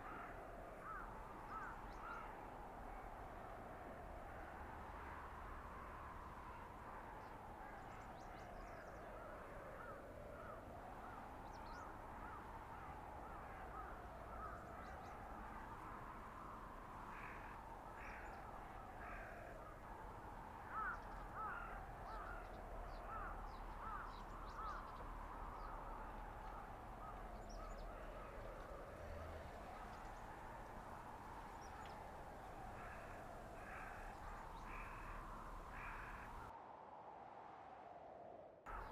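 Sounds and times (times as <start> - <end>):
blizzard wind howling: 0.0 - 38.9.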